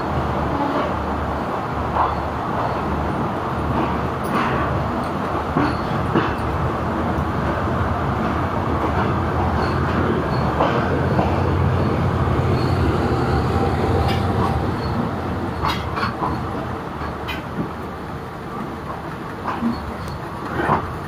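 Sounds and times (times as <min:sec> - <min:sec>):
train rumbling from aboard: 0:00.0 - 0:21.0.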